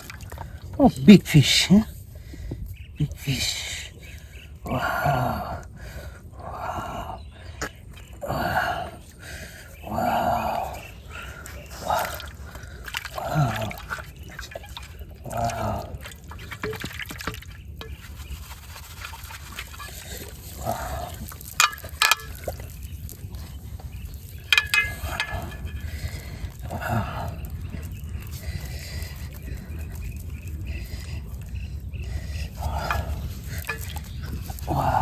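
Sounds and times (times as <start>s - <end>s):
water sloshing and trickling: 0.0s - 2.9s, 7.7s - 35.0s.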